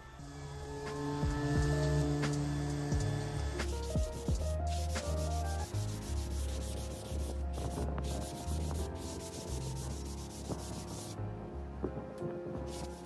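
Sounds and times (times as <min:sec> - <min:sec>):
background music with bass: 0:00.0 - 0:13.0
sanding sponge rubbing on wood: 0:00.6 - 0:11.2, 0:12.7 - 0:13.0.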